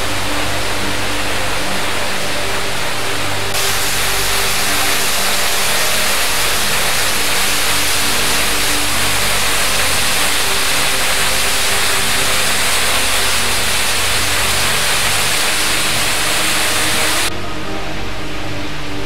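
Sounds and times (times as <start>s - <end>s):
waterfall rushing: 0.0s - 18.9s
faint music: 0.0s - 19.0s.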